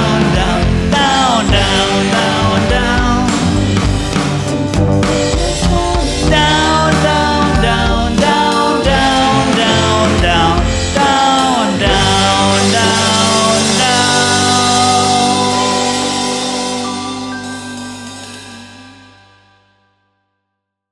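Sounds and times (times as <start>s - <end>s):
rock band playing: 0.0s - 19.4s.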